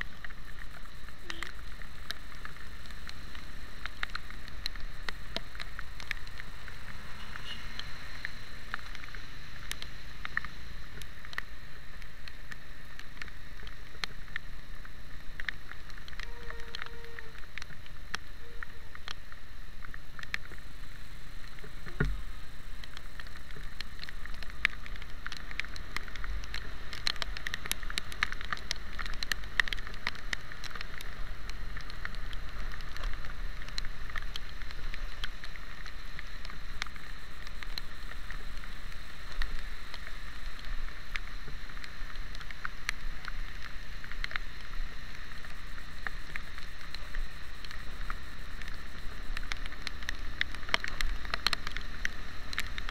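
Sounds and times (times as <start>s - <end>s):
wet tyres hissing: 0.0s - 42.9s
rain ticking on camera: 0.0s - 52.9s
wind: 0.0s - 52.9s.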